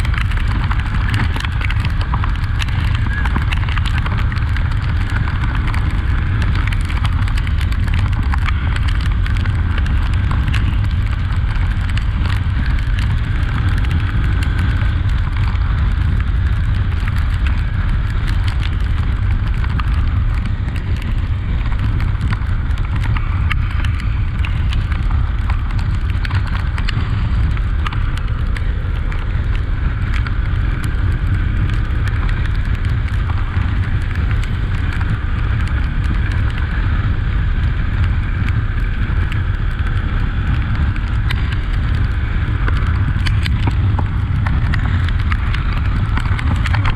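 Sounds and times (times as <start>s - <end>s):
wind rumble on microphone: 0.0s - 46.9s.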